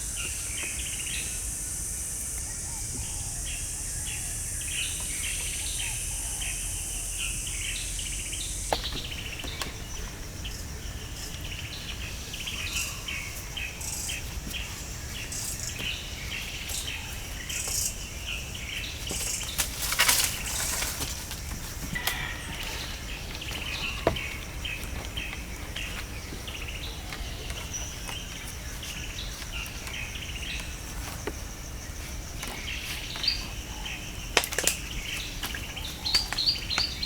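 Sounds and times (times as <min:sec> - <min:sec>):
birds chirping: 0:00.0 - 0:37.0
high insect drone: 0:00.0 - 0:37.0.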